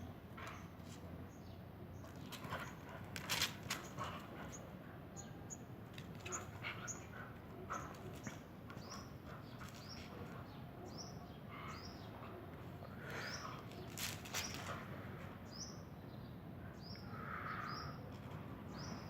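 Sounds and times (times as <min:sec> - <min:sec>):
birds chirping: 0:03.7 - 0:19.0.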